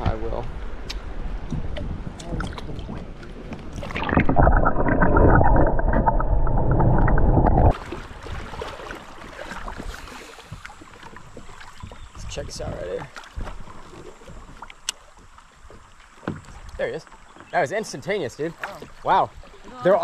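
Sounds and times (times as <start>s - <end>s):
water noise: 0.0s - 20.0s.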